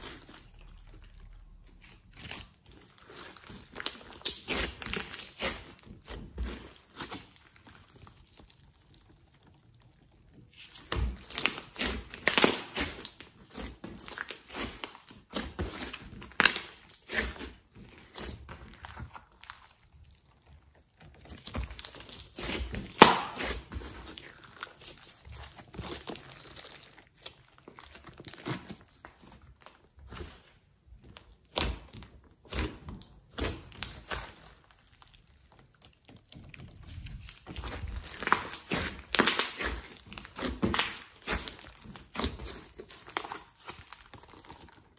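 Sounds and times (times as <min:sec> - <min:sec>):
sticky slime crackling and popping: 0:00.0 - 0:44.9.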